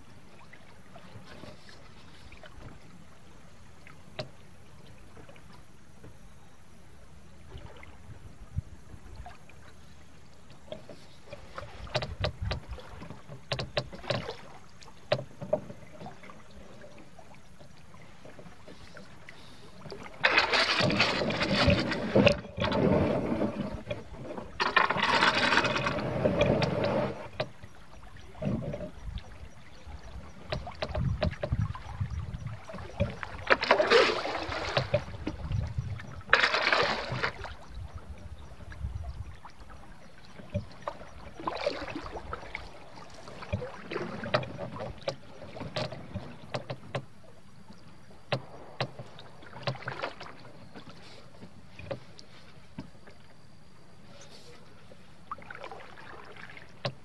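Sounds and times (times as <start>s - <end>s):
paddle knocks and splashes: 0.0s - 6.2s, 7.5s - 53.3s, 54.5s - 57.0s.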